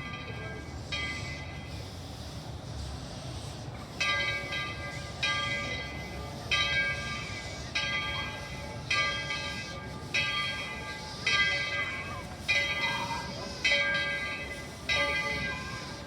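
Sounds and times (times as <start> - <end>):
locomotive bell ringing: 0.0 - 2.8, 3.5 - 16.0.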